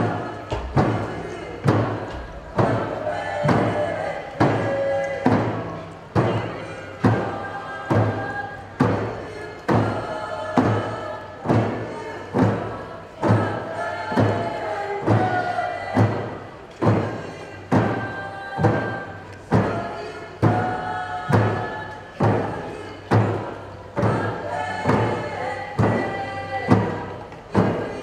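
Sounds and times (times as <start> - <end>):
drum beat: 0.0 - 28.0
group singing: 0.0 - 28.0.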